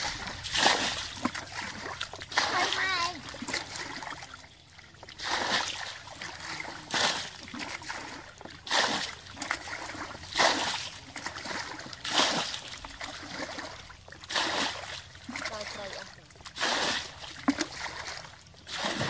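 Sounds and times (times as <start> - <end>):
water trickling: 0.0 - 18.8
water splashing in stream: 0.0 - 19.0.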